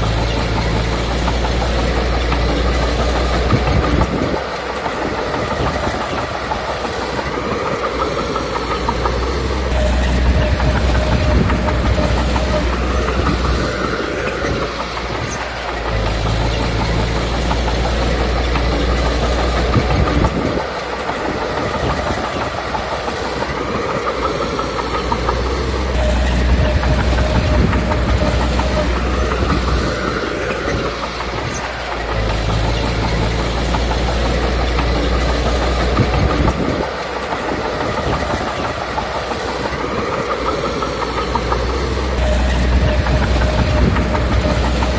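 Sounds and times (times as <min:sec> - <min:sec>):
bulldozer diesel engine rumble: 0:00.0 - 0:44.9
steel tracks clanking: 0:00.0 - 0:44.9.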